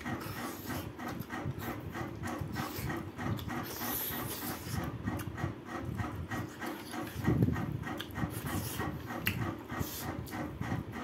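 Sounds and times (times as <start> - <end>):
open-mouthed chewing and lip-smacking: 0.0 - 11.0.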